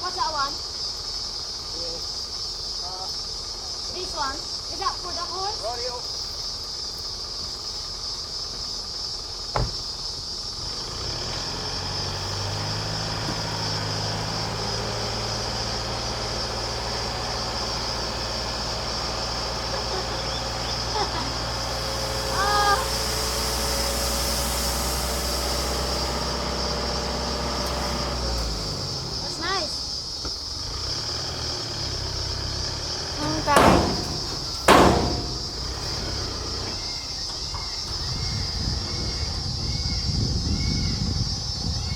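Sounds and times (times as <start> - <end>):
vehicle engine idling: 0.0 - 41.9.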